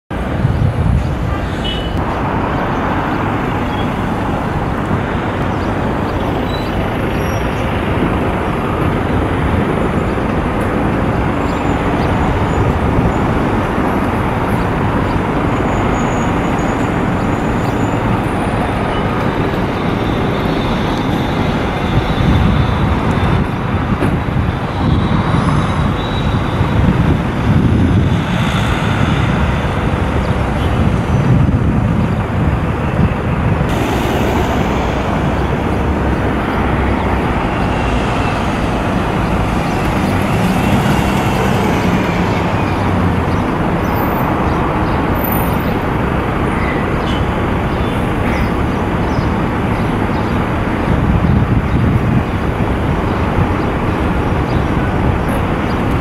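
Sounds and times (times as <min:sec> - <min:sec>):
road traffic rumble: 0:00.1 - 0:56.0.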